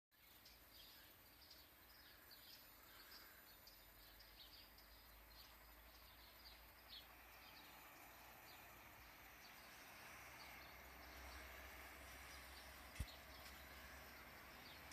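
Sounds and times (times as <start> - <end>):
faint birds chirping: 0.1 - 14.9.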